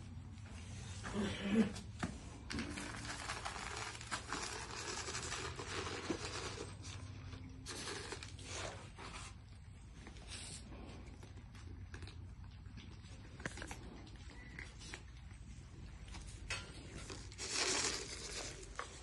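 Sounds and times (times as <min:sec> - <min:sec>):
cat food crackling and rustling: 0:01.7 - 0:19.0.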